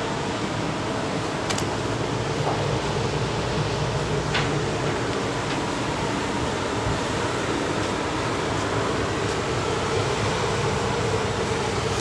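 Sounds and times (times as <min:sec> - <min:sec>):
ship engine drone: 0:00.0 - 0:12.0.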